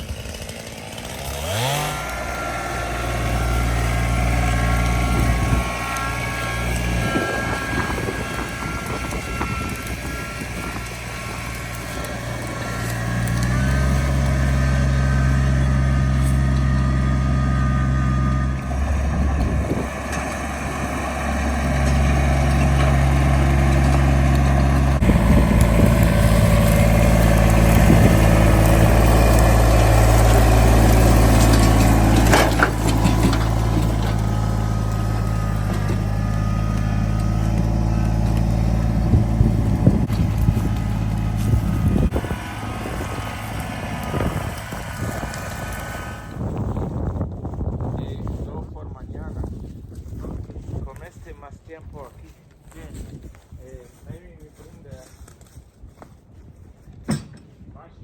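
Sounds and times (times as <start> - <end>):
heavy equipment engine running: 0.0 - 48.8.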